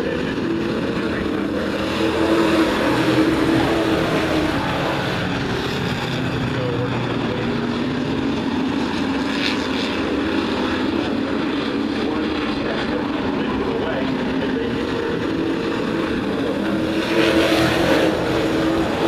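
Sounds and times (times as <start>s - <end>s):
racing truck engines passing: 0.0s - 19.0s.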